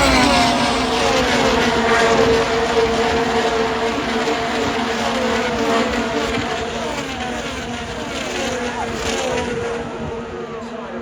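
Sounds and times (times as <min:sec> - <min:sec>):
race car engines at full throttle: 0:00.0 - 0:11.0
race cars passing by: 0:00.0 - 0:11.0.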